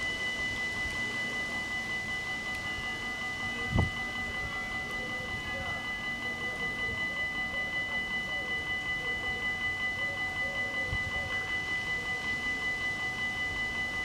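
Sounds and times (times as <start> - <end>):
level crossing warning bells: 0.0 - 14.0.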